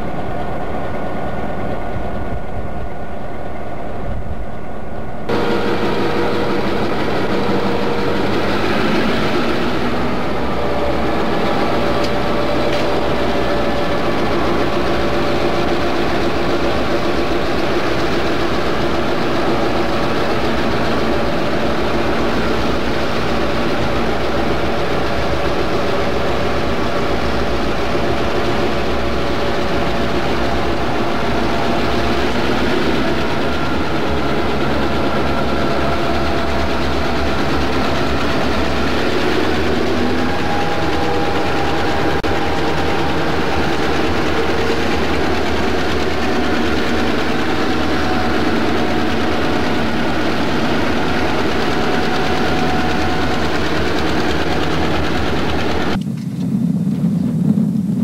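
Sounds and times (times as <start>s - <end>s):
locomotive engines running: 0.0s - 56.4s.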